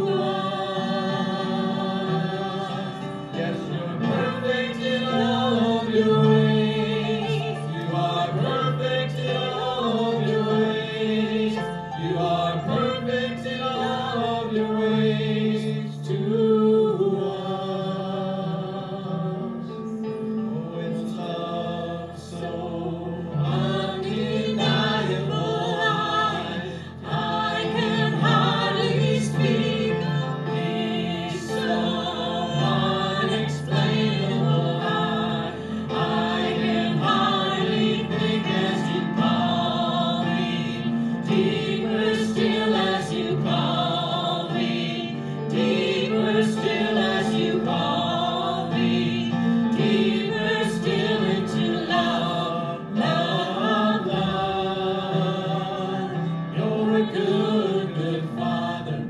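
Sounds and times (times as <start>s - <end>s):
voices singing together: 0.0s - 59.0s.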